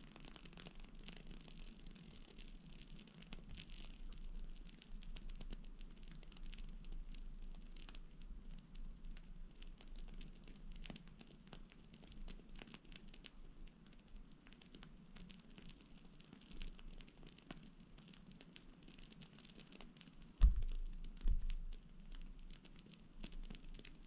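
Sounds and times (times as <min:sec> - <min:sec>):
candle flame crackling: 0:00.0 - 0:24.0.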